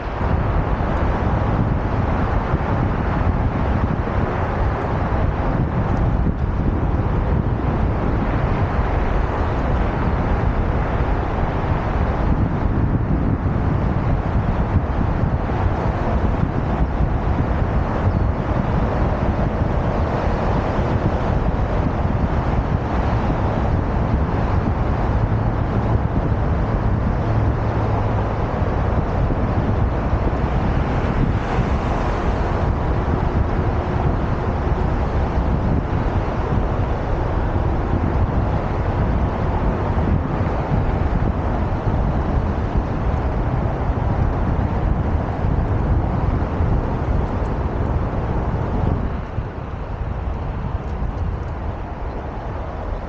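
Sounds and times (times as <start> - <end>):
road traffic passing: 0.0 - 53.0
wind buffeting microphone: 0.0 - 53.0.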